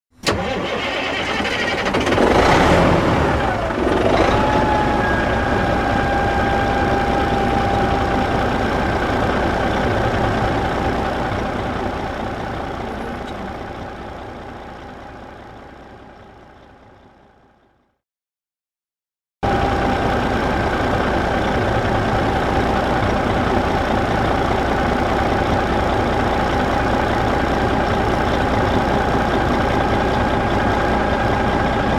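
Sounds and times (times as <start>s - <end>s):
diesel engine running: 0.2s - 17.8s, 19.4s - 31.9s.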